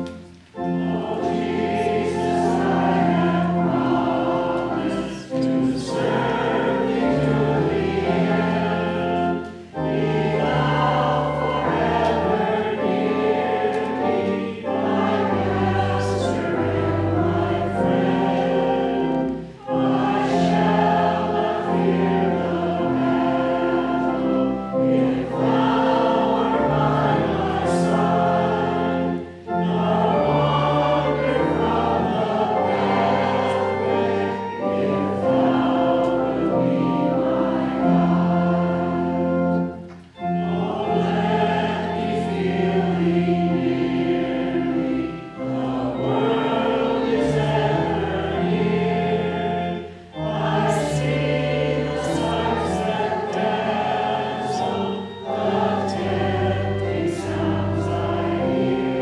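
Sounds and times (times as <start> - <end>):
choir singing a hymn: 0.0 - 59.0
low accompaniment: 0.0 - 59.0.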